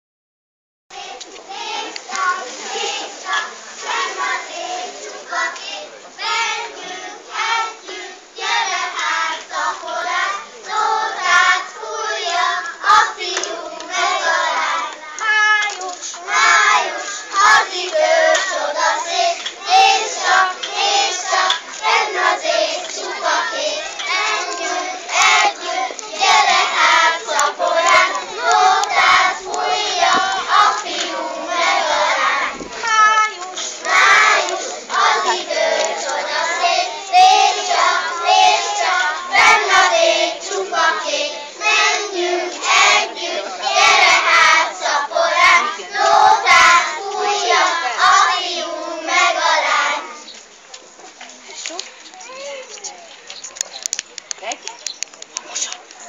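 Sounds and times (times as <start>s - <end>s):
children singing together: 0.9s - 50.4s.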